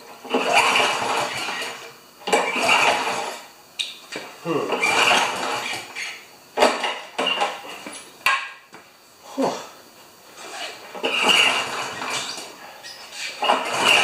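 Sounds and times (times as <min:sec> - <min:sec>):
lawn mower engine sputtering: 0:00.1 - 0:08.5, 0:10.4 - 0:14.0.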